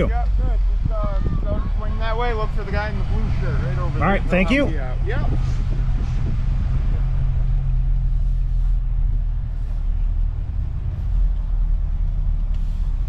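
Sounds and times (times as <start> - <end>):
car engine low hum: 0.0 - 13.0.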